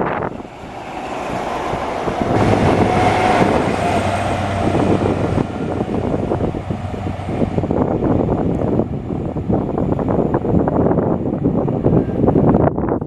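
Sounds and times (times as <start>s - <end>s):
high engine whine: 0.0s - 12.6s
vehicle engine rumble: 0.0s - 13.0s.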